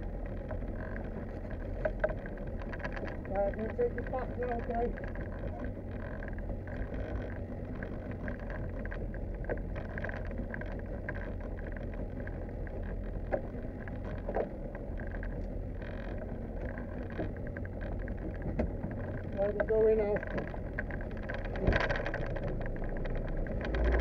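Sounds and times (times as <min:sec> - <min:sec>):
steady low rumble: 0:00.0 - 0:24.0
water lapping against hull: 0:00.0 - 0:24.0.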